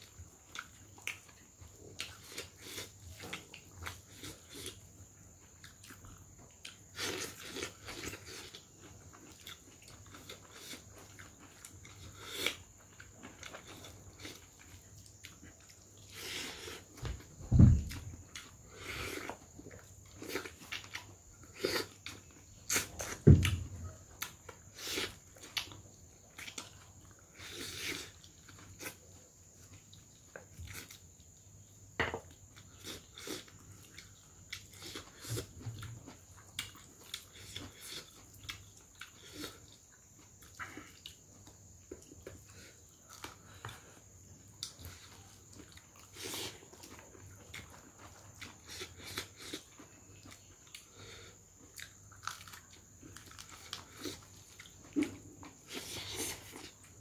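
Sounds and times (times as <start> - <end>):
chewing and lip-smacking: 0.0 - 17.0, 24.1 - 31.7, 32.4 - 51.0, 51.6 - 57.0.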